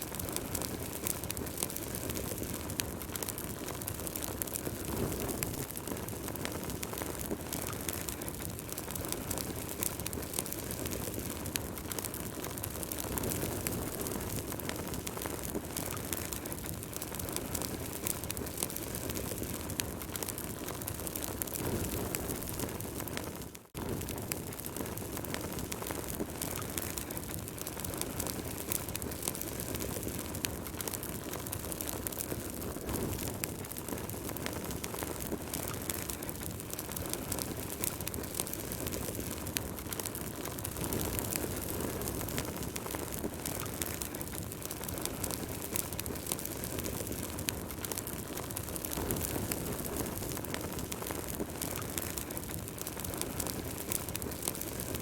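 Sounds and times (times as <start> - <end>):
wood fire burning and crackling: 0.0 - 55.0.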